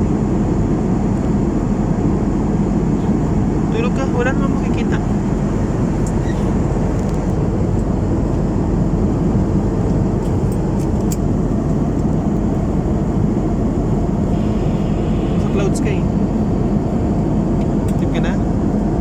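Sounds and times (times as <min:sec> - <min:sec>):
airliner cabin engine rush: 0:00.0 - 0:19.0.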